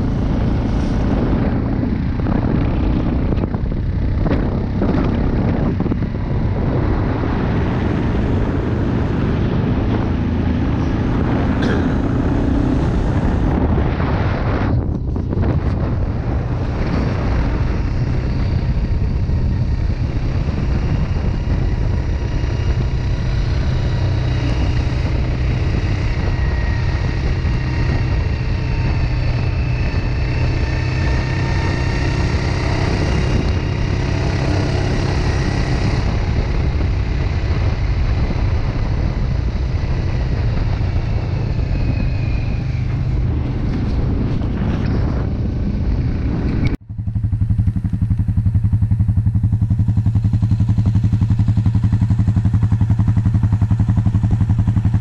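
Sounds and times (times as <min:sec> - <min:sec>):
quad bike engine running: 0:00.0 - 0:55.0
wind noise on microphone: 0:00.0 - 0:55.0.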